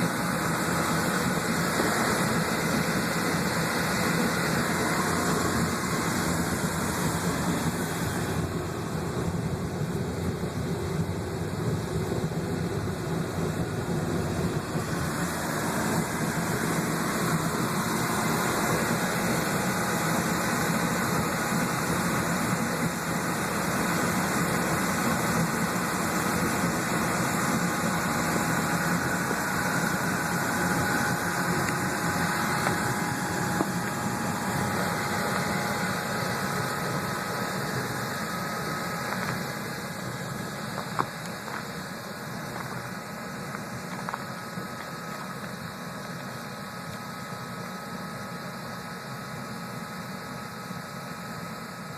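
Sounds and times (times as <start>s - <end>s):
fire and sap boiling: 0.0s - 51.9s.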